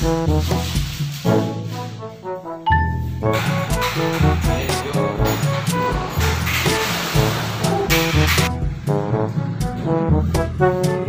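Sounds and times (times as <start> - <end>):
music with beat and bass line: 0.0 - 2.0, 2.7 - 11.0.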